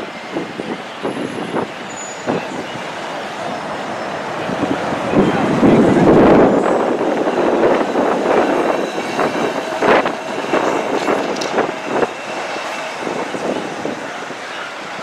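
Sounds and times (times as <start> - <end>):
tram rumble: 0.0 - 15.0
tram wheels clacking over rails: 0.0 - 15.0.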